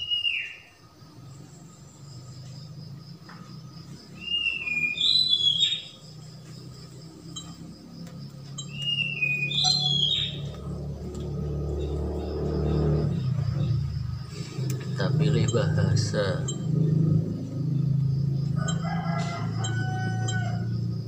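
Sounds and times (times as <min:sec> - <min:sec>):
steady low hum: 0:00.8 - 0:21.0.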